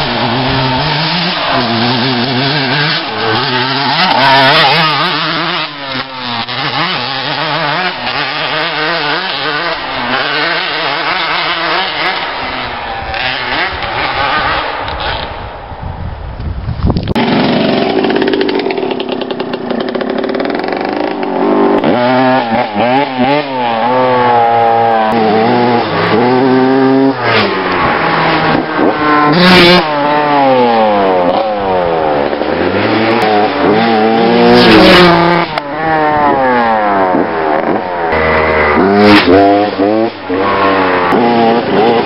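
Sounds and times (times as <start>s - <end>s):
motocross bike engine revving: 0.0s - 15.5s, 17.0s - 42.0s.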